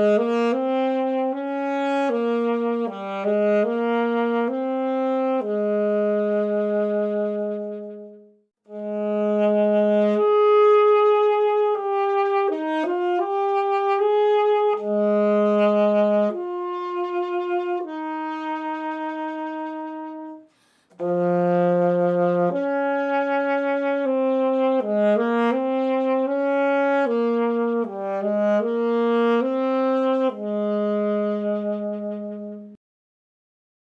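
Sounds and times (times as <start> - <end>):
alto saxophone playing: 0.0 - 32.8.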